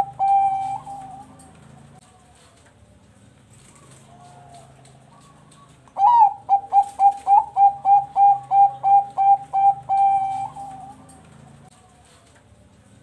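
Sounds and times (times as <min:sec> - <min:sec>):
dove cooing: 0:00.0 - 0:02.5, 0:03.6 - 0:11.7.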